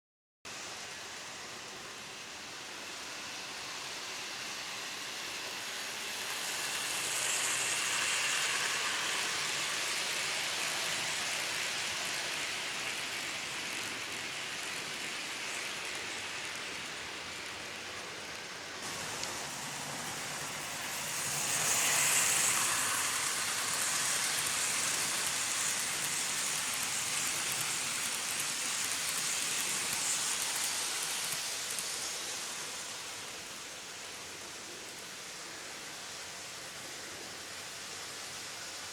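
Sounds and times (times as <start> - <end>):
model train wheels rattling on rail: 2.4 - 35.4.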